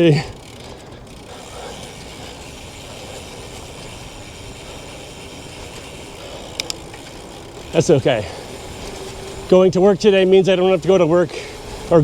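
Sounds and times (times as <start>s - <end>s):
bicycle tyre noise: 0.0s - 12.0s.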